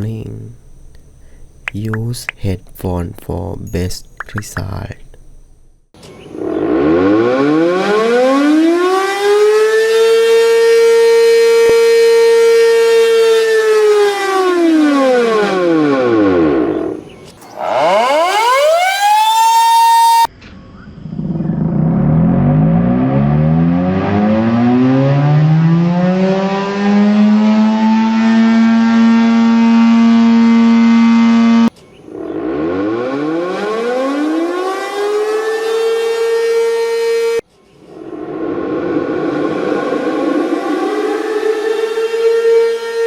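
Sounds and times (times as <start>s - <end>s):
tornado siren winding up: 0.0s - 20.3s, 21.1s - 43.0s.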